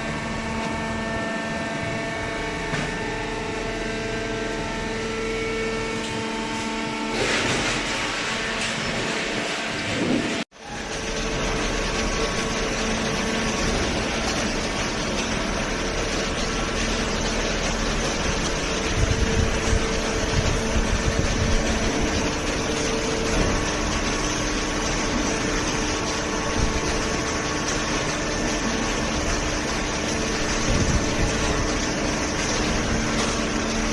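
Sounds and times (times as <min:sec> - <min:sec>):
hydraulic pump motor humming: 0:00.0 - 0:33.9.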